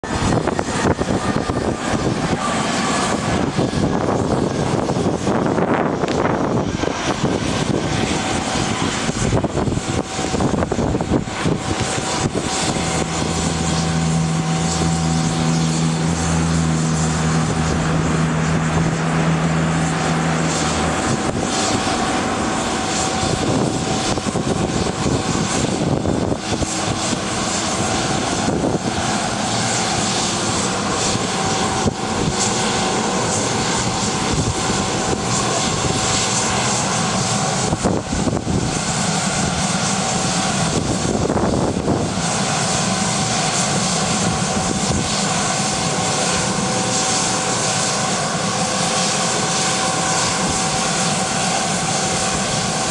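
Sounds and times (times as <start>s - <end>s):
jet turbines running: 0.0s - 52.9s.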